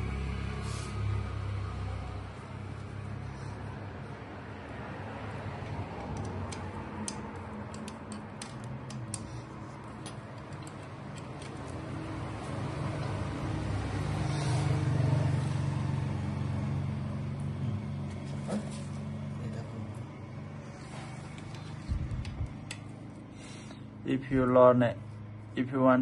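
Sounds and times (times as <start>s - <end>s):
motor vehicle rumble: 0.0s - 25.6s.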